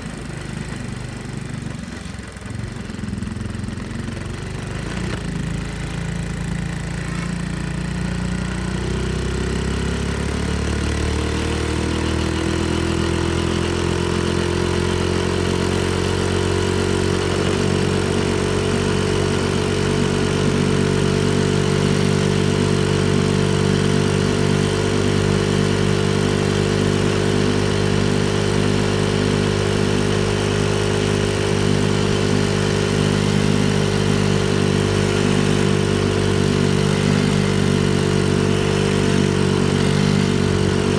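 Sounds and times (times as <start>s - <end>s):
minibike engine running: 0.0s - 40.9s.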